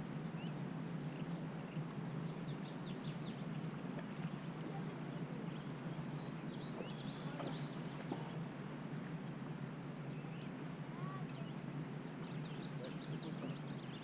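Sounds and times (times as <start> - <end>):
low background rush: 0.0 - 14.0
small birds chirping: 0.2 - 14.0.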